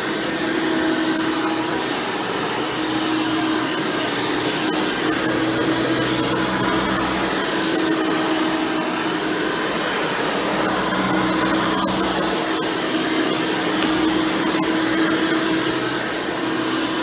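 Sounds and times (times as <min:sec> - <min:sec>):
upright vacuum running: 0:01.4 - 0:17.0.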